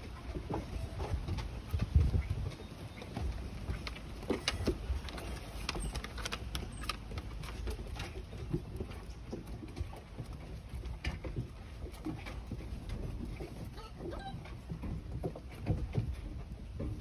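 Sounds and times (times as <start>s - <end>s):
puppy paws pattering on wood: 0.0s - 17.0s.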